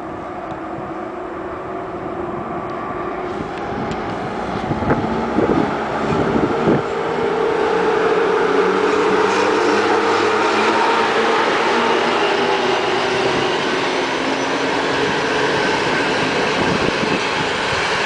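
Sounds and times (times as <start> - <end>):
electric locomotive hum: 0.0 - 18.0.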